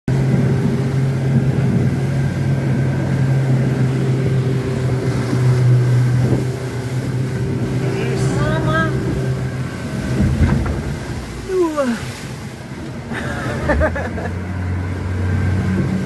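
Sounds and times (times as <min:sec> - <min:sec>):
motorboat engine drone: 0:00.1 - 0:16.0
rushing water: 0:00.1 - 0:16.0.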